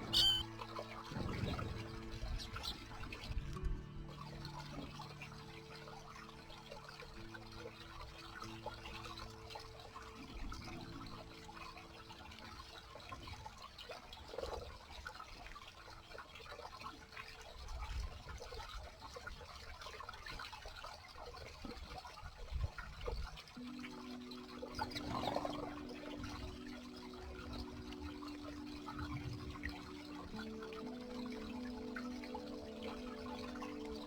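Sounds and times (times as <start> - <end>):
stream trickling over small waterfall: 0.0 - 34.0
water drips and splashes: 0.0 - 34.0.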